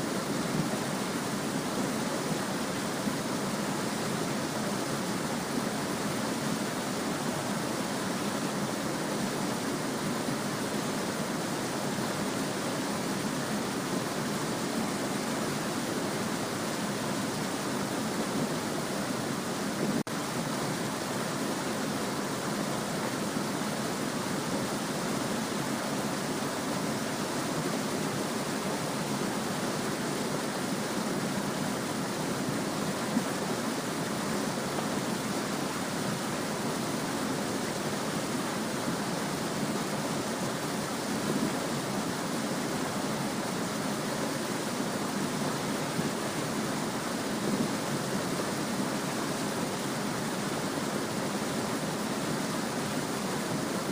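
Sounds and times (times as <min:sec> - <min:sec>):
small stream babbling: 0:00.0 - 0:53.9.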